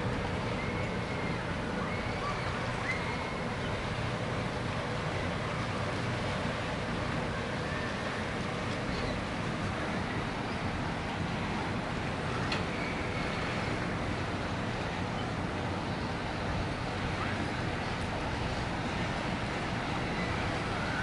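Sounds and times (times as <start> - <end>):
harbour and city rumble: 0.0 - 21.0.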